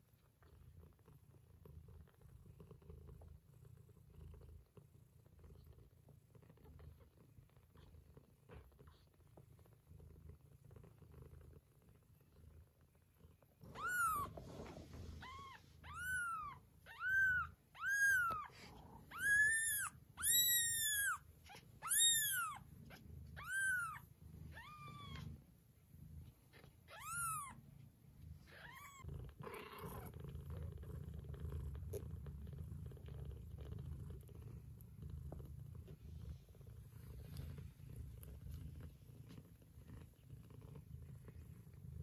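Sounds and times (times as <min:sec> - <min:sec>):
cat purring: 0:00.0 - 0:42.0.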